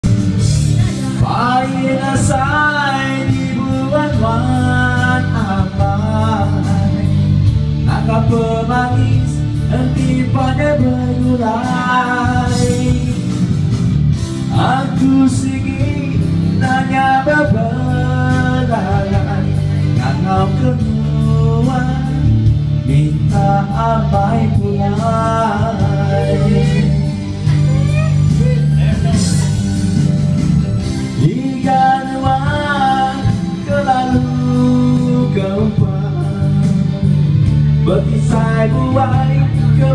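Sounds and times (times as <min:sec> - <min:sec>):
man singing into a microphone: 0:00.0 - 0:30.0, 0:30.8 - 0:39.9
backing track over loudspeaker: 0:00.0 - 0:39.9.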